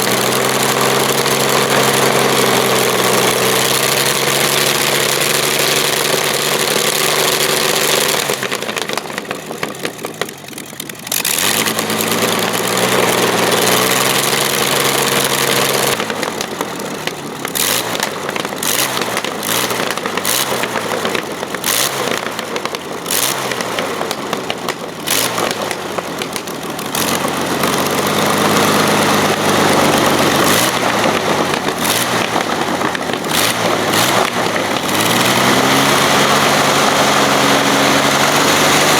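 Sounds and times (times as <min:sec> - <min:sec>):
aircraft engine running: 0:00.0 - 0:38.9
sharp crackles: 0:00.0 - 0:38.9.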